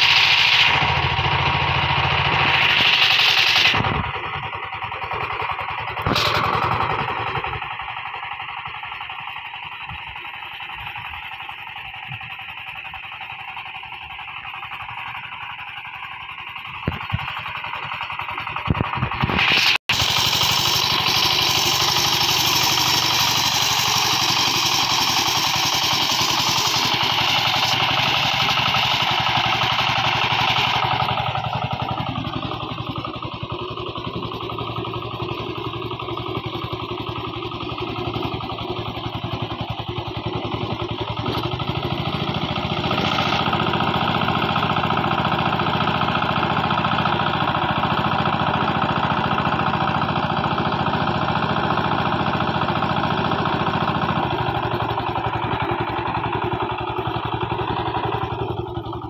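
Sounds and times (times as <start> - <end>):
small tractor engine chugging: 0.0 - 59.0.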